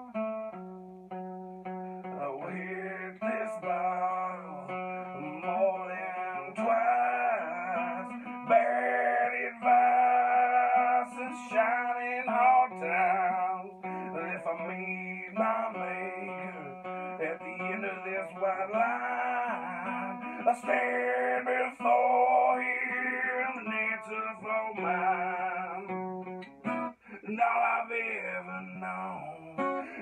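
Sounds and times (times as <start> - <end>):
acoustic guitar chords: 0.0 - 30.0
man singing: 1.9 - 30.0.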